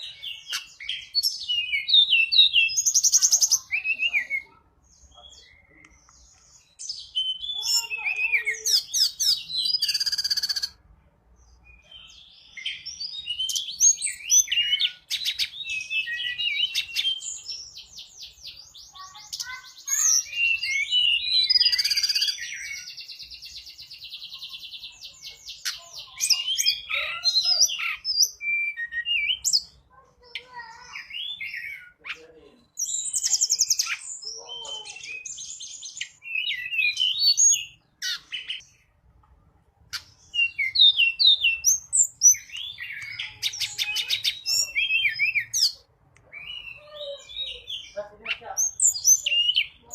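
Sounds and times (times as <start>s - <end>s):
bird singing chirps and trills: 0.0s - 10.8s, 11.4s - 39.0s, 39.8s - 49.9s.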